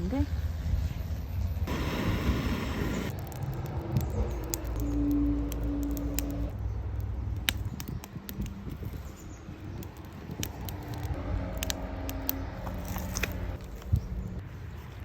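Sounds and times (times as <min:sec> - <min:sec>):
sharp pops and clicks: 0:01.7 - 0:14.1
wood fire crackling: 0:01.7 - 0:15.0.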